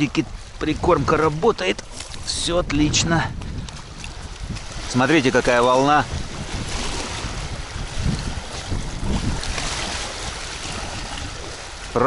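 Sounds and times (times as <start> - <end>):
small waves lapping: 0.0 - 12.0
wind gusting across microphone: 0.0 - 12.0.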